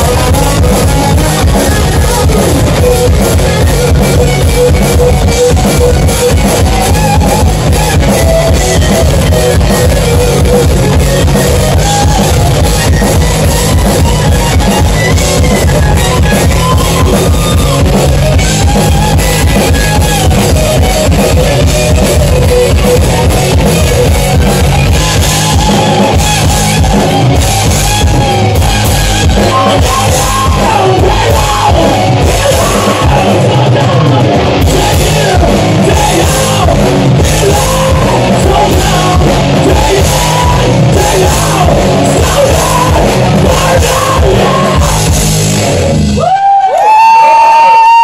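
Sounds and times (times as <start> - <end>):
person singing: 0.0 - 27.2, 29.3 - 45.2
distorted electric guitars: 0.0 - 48.0
driving drum kit: 0.0 - 48.0
loud held high tone: 0.0 - 48.0.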